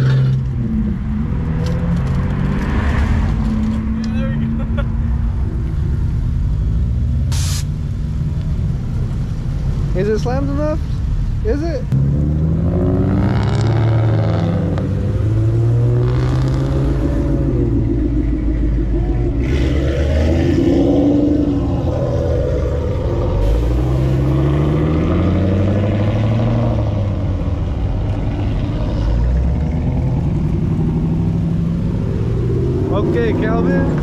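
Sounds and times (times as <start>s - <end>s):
cars revving and driving past: 0.0s - 34.0s.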